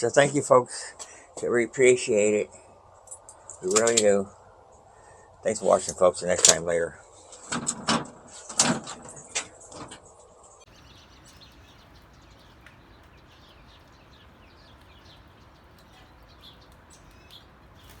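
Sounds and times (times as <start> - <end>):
outdoor background noise: 0.0 - 18.0
songbirds chirping: 0.0 - 18.0.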